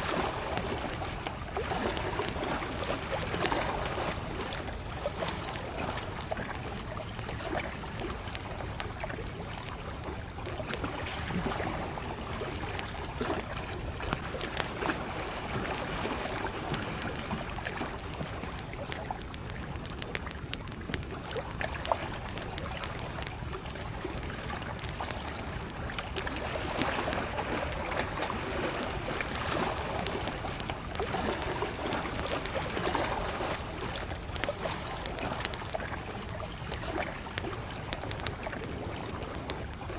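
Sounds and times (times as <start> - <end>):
campfire crackling and popping: 0.0 - 39.9
lake waves lapping: 0.0 - 39.9.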